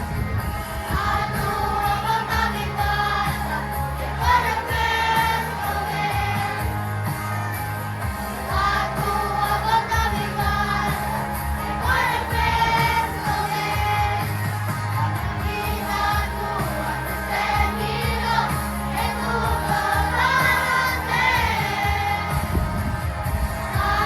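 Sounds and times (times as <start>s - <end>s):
accompaniment with bass and beat: 0.0s - 24.0s
children's choir singing: 0.7s - 7.0s, 8.1s - 24.0s.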